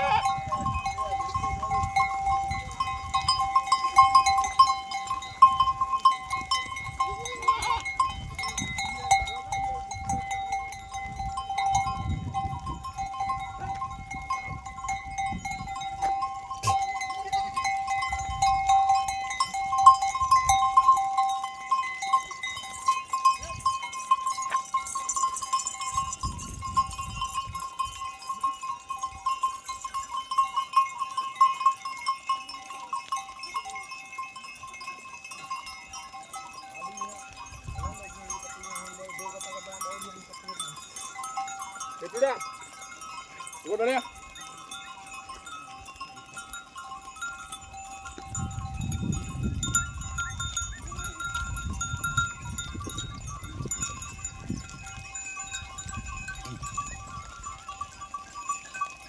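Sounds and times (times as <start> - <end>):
goat bells ringing: 0.0 - 59.0
hooves clicking and knocking: 0.0 - 59.0.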